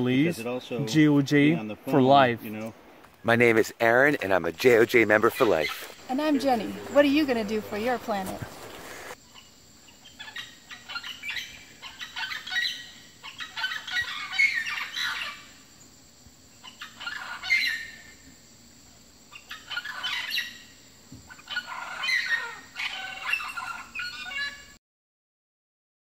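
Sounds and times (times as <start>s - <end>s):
birds chirping: 0.0s - 18.4s, 19.2s - 24.8s.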